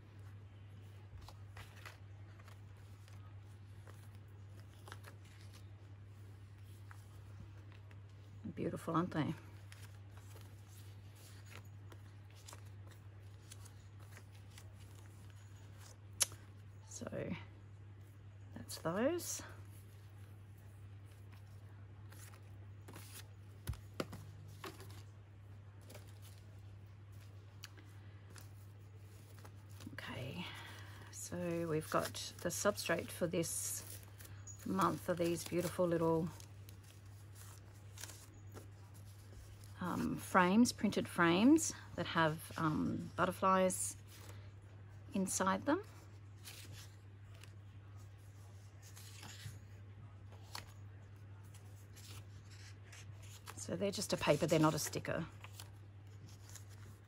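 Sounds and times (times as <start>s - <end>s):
paper rustling: 0.8s - 8.2s, 9.4s - 16.5s, 19.1s - 40.2s, 45.8s - 57.0s.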